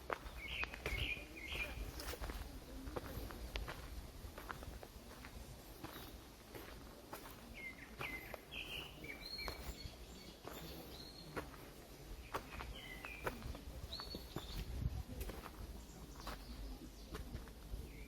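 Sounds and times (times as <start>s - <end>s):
footsteps on a trail: 0.0s - 18.0s
small birds chirping: 0.0s - 18.0s.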